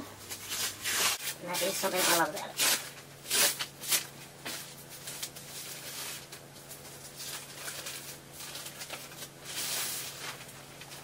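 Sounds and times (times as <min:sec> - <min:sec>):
plastic wrap rustling: 0:00.2 - 0:11.0.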